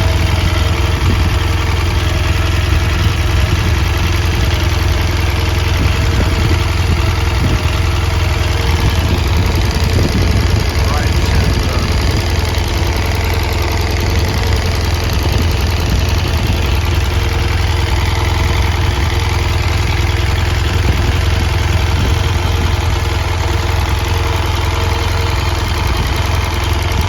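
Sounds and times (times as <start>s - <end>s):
engine ticking: 0.0s - 27.0s
motorcycle engine idling: 0.0s - 27.0s.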